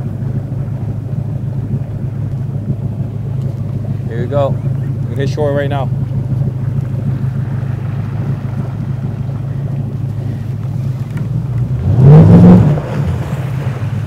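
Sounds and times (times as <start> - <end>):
boat motor running: 0.0 - 14.0
wind on microphone: 0.0 - 14.0.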